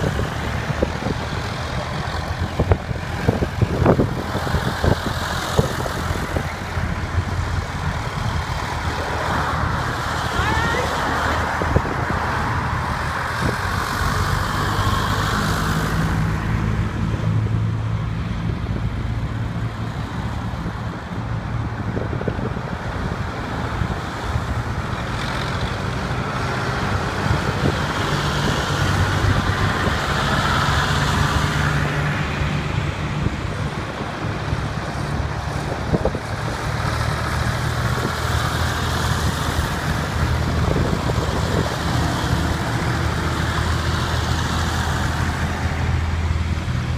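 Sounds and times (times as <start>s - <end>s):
diesel tractors driving by: 0.0s - 46.9s.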